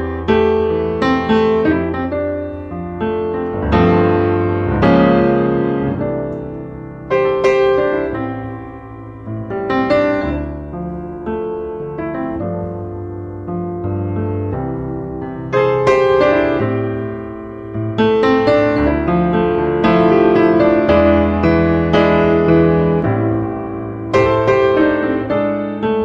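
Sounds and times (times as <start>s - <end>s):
calm piano piece: 0.0s - 26.0s.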